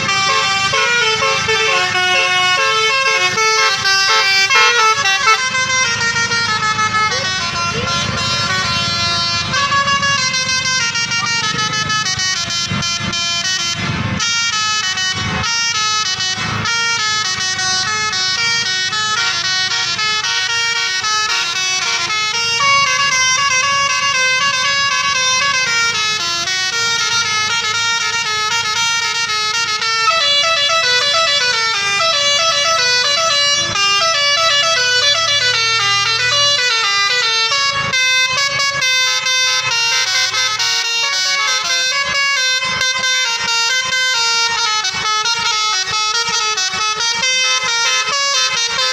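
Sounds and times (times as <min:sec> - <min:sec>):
musical bus horn playing tune: 0:00.0 - 0:48.9.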